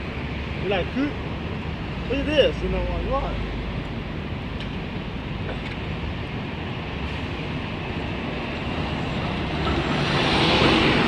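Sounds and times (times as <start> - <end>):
bus passing by: 0.0 - 11.0
street traffic noise: 0.0 - 11.0.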